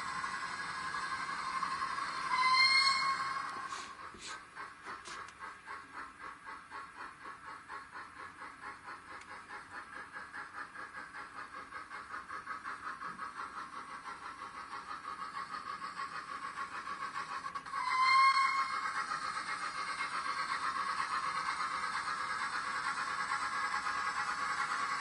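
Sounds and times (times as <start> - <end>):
steam locomotive exhaust chuffs: 0.0 - 25.0.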